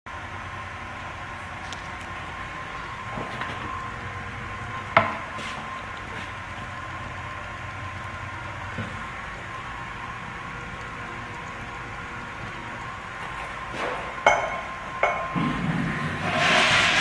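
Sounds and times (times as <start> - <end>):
restroom background hum: 0.1 - 17.0.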